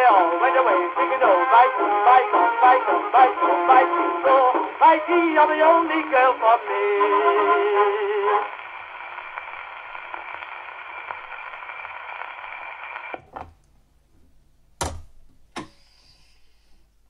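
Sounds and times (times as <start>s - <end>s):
record surface hiss and crackle: 0.0s - 17.0s.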